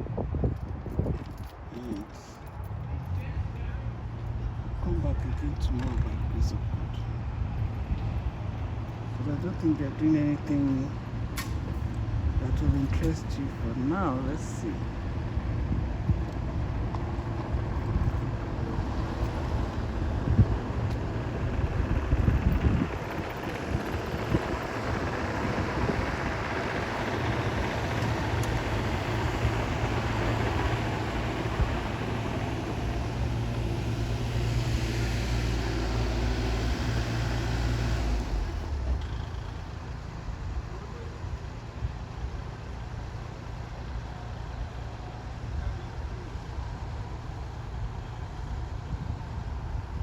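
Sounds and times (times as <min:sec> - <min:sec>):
engine humming: 0:01.3 - 0:50.0.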